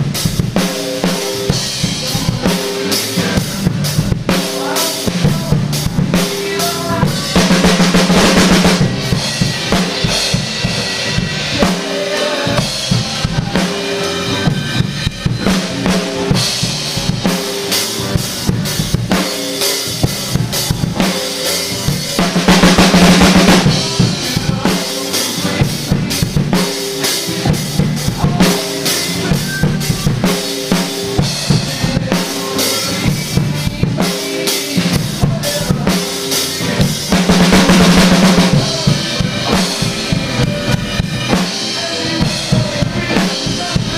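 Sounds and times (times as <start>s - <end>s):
drum kit groove: 0.0s - 43.9s
recorded song: 0.0s - 43.9s.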